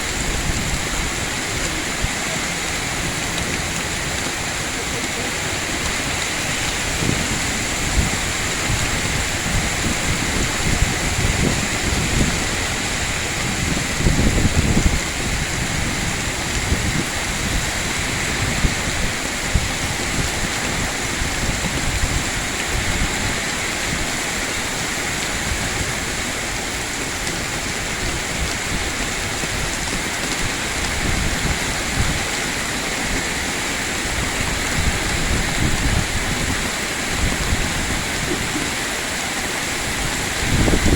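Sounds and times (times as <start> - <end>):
heavy rain pouring: 0.0 - 40.9
wind buffeting microphone: 0.0 - 40.9.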